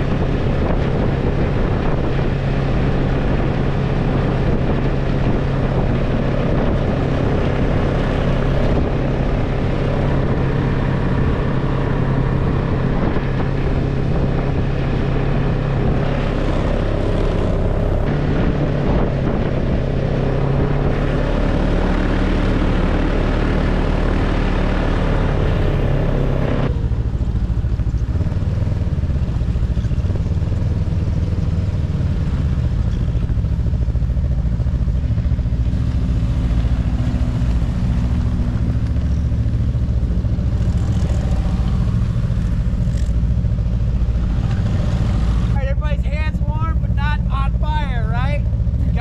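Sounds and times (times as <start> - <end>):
rush of track and wind: 0.0 - 49.0
snowmobile engine running: 0.0 - 49.0
snowmobile engines idling: 0.0 - 49.0.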